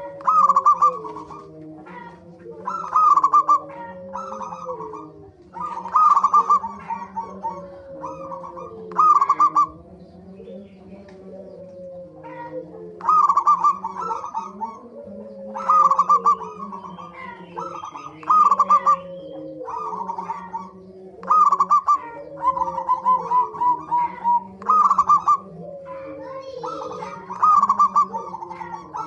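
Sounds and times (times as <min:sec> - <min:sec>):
soft falling coos: 0:00.0 - 0:09.8, 0:11.0 - 0:29.0
doves stuttering coos: 0:00.0 - 0:29.0.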